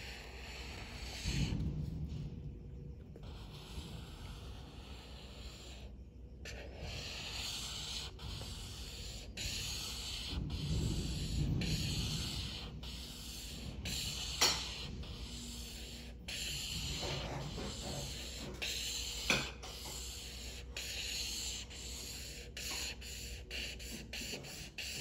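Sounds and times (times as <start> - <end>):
marker scratching on paper: 0.0 - 1.6, 3.2 - 25.0.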